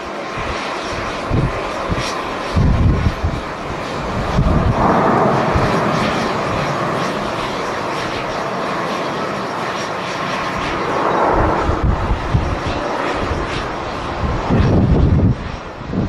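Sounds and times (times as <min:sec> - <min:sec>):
jet engines running: 0:00.0 - 0:16.0
wind buffeting microphone: 0:00.3 - 0:16.0.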